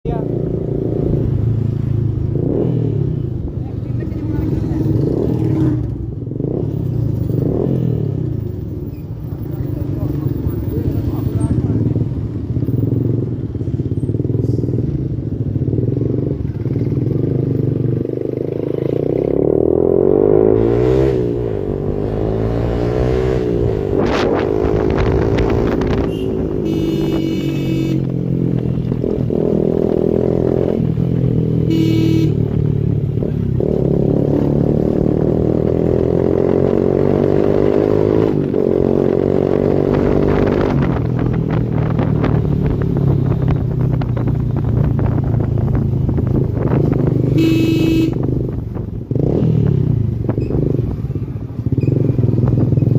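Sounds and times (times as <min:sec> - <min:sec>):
motorcycle engine revving: 0:00.1 - 0:52.9.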